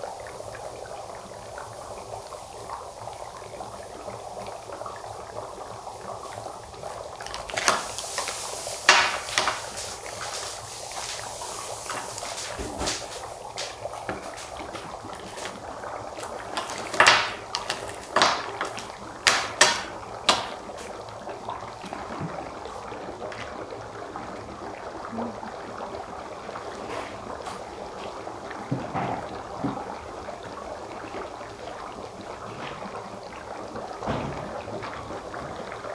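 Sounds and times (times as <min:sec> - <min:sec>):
dry ice bubbling in water: 0:00.0 - 0:35.9.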